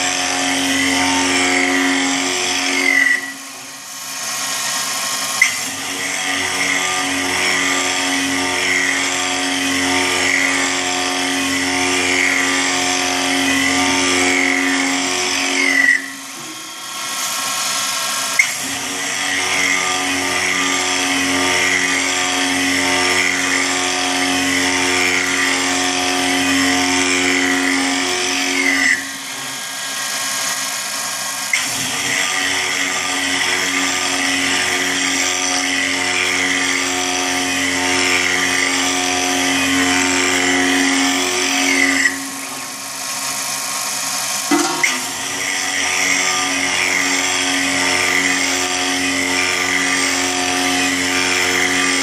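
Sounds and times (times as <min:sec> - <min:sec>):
end mill cutting metal: 0:00.0 - 0:52.0
milling machine spindle whining: 0:00.0 - 0:52.0.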